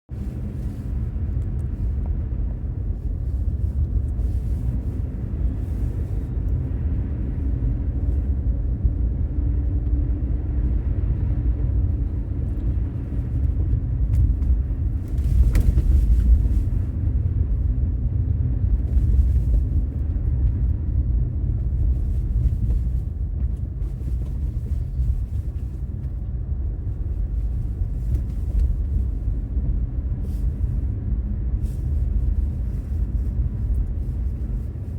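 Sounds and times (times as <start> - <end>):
car driving rumble: 0.1 - 34.9.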